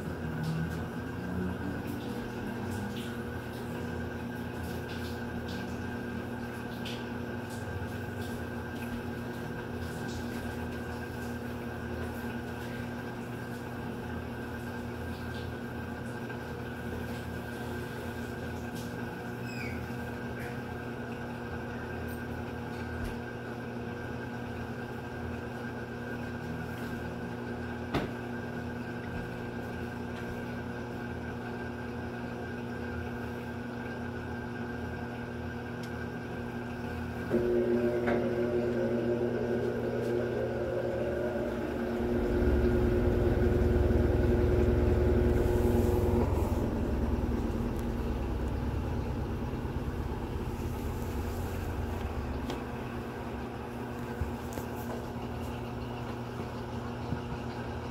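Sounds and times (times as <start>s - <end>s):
washing machine drum spinning: 0.0s - 57.9s
washing machine hum: 0.0s - 57.9s.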